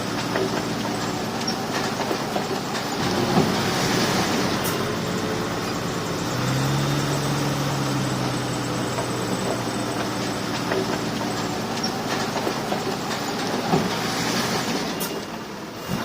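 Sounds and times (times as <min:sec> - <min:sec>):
bulldozer diesel engine running: 0:00.0 - 0:16.0
steel tracks clattering: 0:00.0 - 0:16.0.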